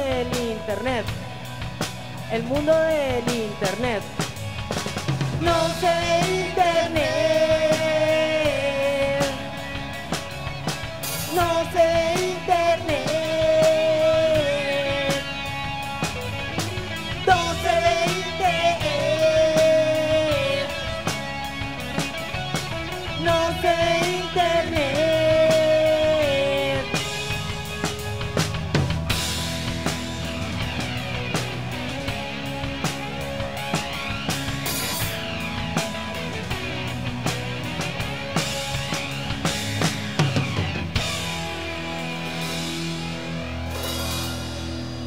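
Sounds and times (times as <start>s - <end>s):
melodic lead guitar line: 0.0s - 45.0s
rock band playing live: 0.0s - 45.0s.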